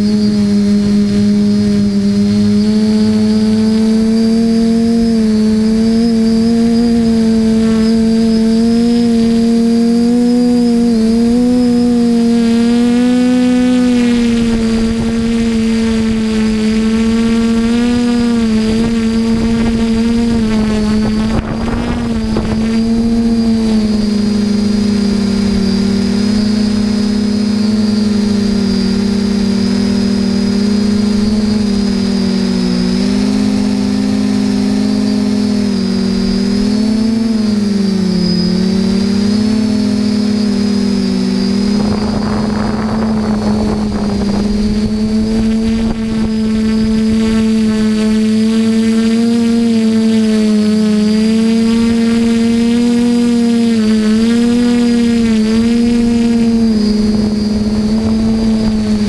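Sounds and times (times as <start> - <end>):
drone motors whining: 0.0 - 59.0
wind on microphone: 0.0 - 59.0.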